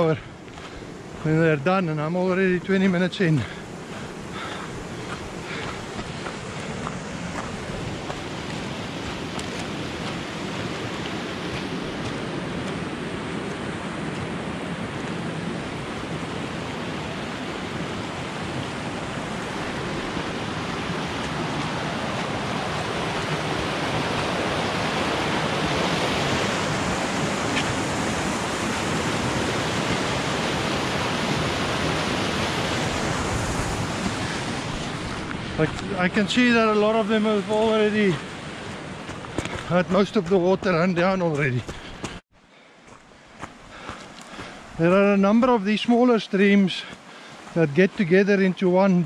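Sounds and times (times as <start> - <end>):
flood water rushing over rocks: 0.0 - 42.2, 42.8 - 49.0.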